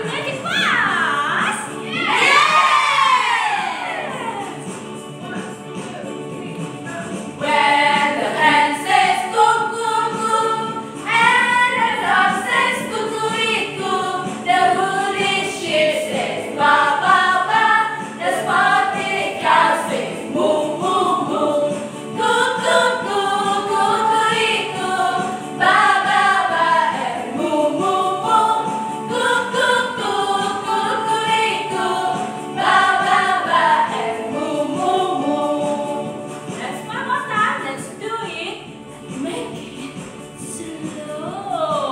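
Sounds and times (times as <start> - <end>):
women singing in unison: 1.4 - 4.7, 7.1 - 37.2, 39.2 - 41.9
keyboard accompaniment: 3.8 - 41.8.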